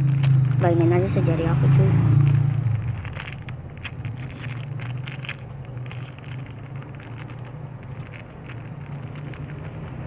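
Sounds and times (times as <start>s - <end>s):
handling clicks and rustles: 0.0s - 10.0s.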